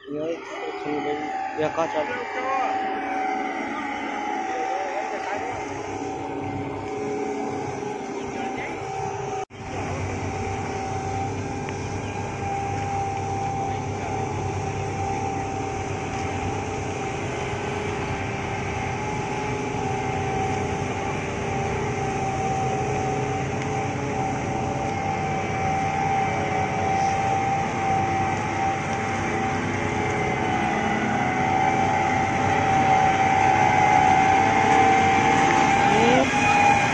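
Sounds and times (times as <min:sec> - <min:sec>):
combine harvester engine drone: 0:00.0 - 0:36.9
high steady whine: 0:00.0 - 0:36.9.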